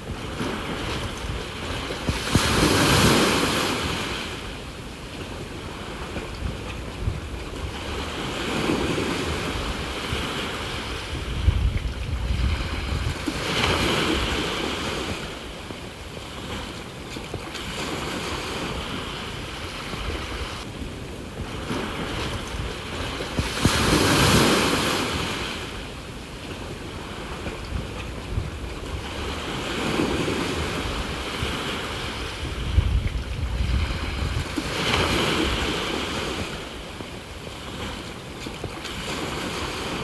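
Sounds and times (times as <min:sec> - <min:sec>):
ocean waves on shore: 0:00.0 - 0:40.0
wind buffeting microphone: 0:00.0 - 0:40.0.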